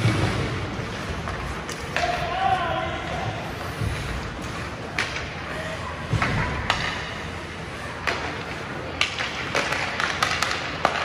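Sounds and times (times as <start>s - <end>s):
hockey sticks hitting puck: 0.0s - 11.0s.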